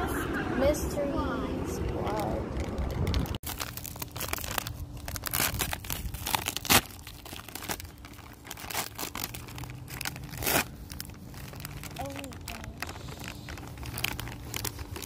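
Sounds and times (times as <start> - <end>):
plastic bag crinkling and tearing: 2.1 - 15.0.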